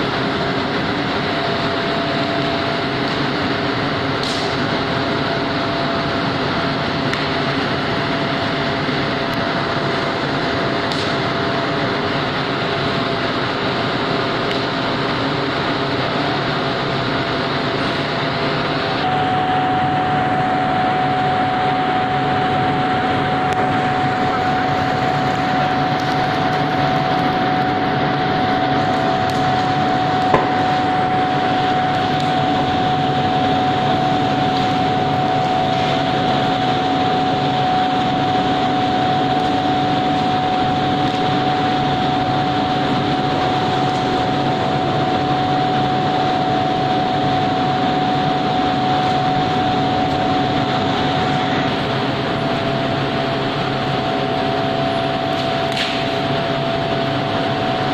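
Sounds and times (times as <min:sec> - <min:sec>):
heavy machinery drone: 0:00.0 - 0:57.9
high whine: 0:00.0 - 0:57.9.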